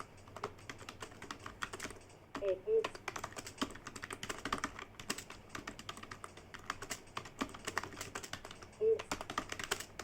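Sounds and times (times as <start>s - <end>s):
keyboard typing clicks: 0.0s - 10.0s.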